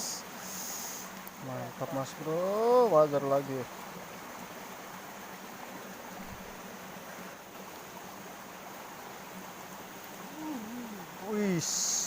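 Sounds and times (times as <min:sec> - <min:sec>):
stream and waterfall rushing: 0:00.0 - 0:12.0.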